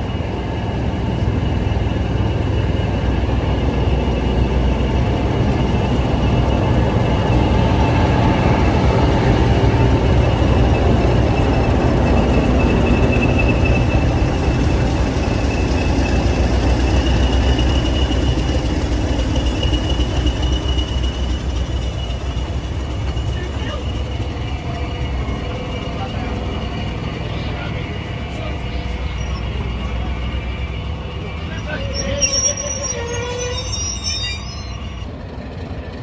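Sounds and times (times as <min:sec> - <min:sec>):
diesel train engine rumble: 0:00.0 - 0:36.0.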